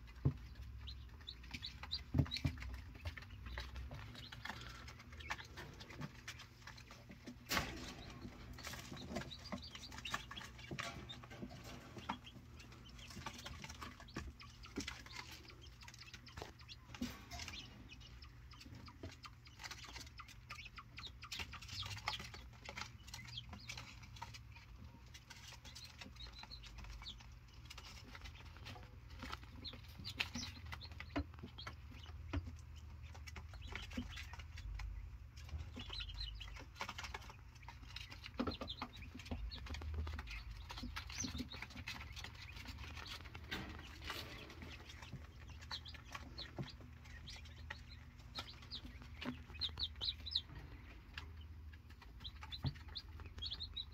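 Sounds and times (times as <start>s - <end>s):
young quail chirping: 0.0s - 53.9s.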